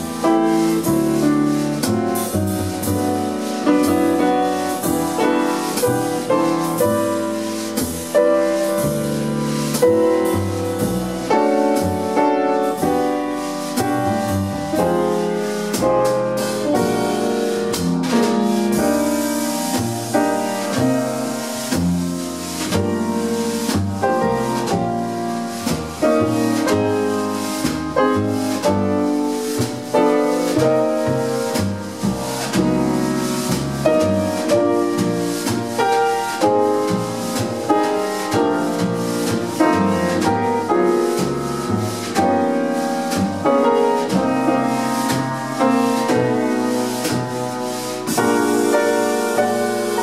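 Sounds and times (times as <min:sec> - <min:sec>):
double bass plucked: 0:00.0 - 0:49.9
drum kit: 0:00.0 - 0:50.0
grand piano: 0:00.0 - 0:50.0.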